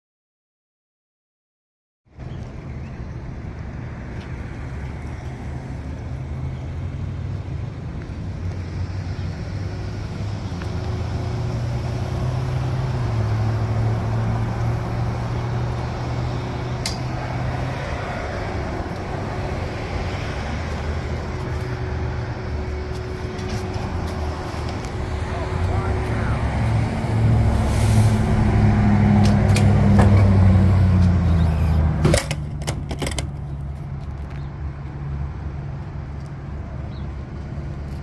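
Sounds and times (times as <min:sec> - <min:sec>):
truck engine and road noise: 0:02.1 - 0:38.0.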